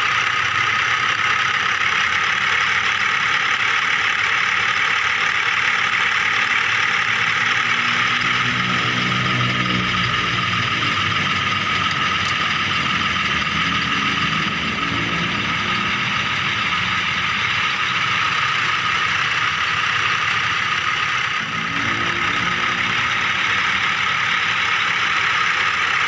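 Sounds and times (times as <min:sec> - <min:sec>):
low engine-like hum: 0:00.0 - 0:26.0
toy vehicle electric whine: 0:00.0 - 0:26.0.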